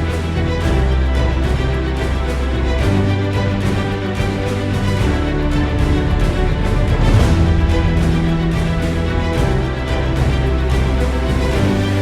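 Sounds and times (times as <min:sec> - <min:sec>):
background music with sustained chords: 0:00.0 - 0:12.0
deep bass line: 0:00.0 - 0:12.0.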